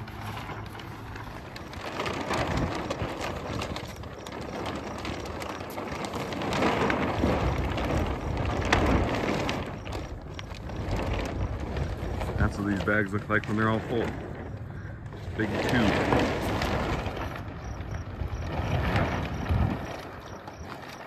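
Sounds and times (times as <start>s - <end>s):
plastic bag rustling and crackling: 0.0s - 21.0s.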